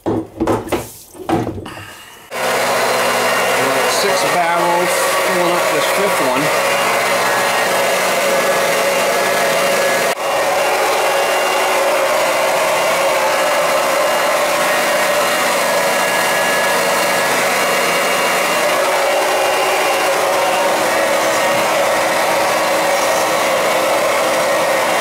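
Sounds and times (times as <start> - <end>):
electric pump motor whine: 1.7 - 25.0.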